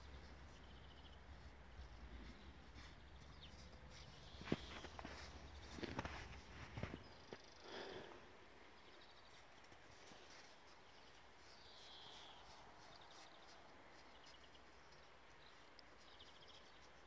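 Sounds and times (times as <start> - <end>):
faint bird chirps: 0.0 - 8.0, 8.7 - 17.0.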